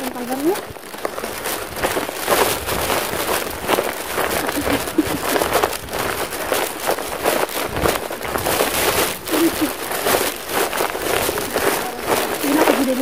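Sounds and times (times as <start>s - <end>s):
footsteps on dirt path: 0.0s - 13.0s
camera jostling: 0.1s - 13.0s.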